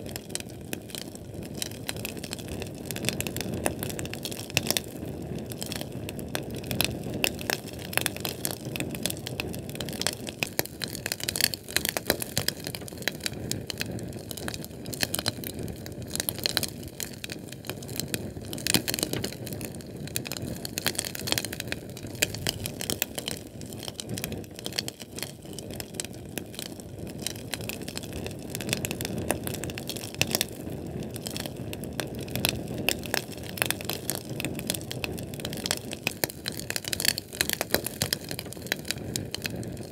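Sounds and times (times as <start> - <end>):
low rush of flame: 0.0 - 37.2
fire crackling and snapping: 0.0 - 39.9.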